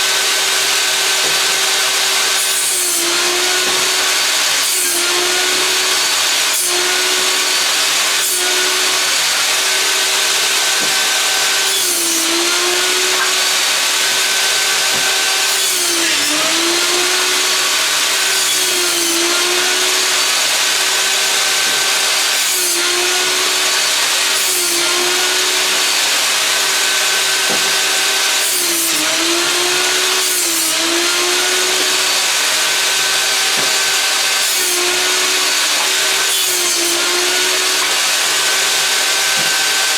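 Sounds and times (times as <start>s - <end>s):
saw cutting wood: 0.0s - 39.9s
table saw motor hum: 0.0s - 39.9s.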